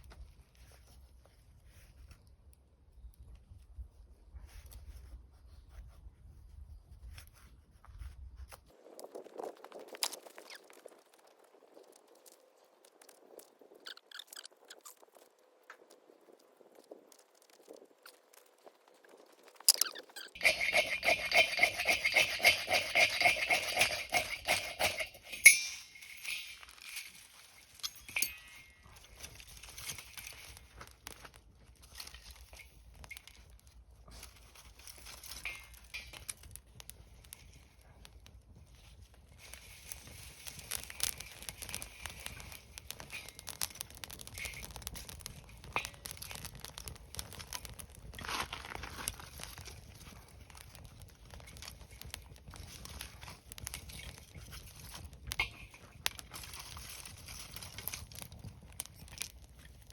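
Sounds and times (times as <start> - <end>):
crackling and rustling: 0.0 - 59.9.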